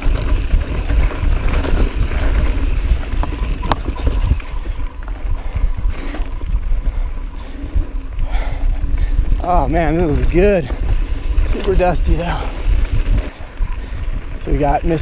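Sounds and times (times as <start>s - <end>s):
sharp clicks from bike: 0.0s - 15.0s
tyres rumbling on dirt: 0.0s - 15.0s
wind buffeting microphone: 0.0s - 15.0s.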